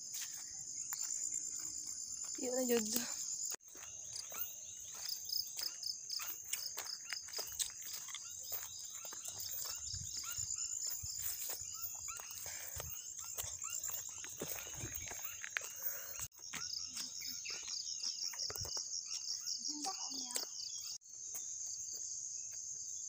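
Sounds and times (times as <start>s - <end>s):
footsteps on dirt trail: 0.0s - 22.7s
insects droning: 0.0s - 23.0s.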